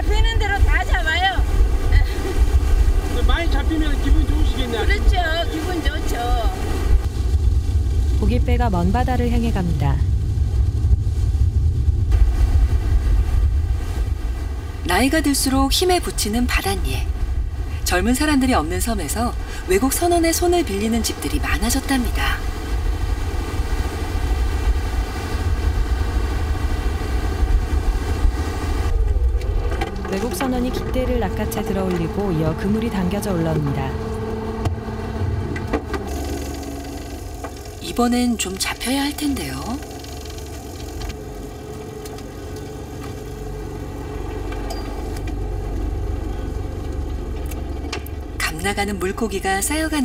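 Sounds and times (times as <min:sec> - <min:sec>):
boat engine rumbling: 0:00.0 - 0:50.0.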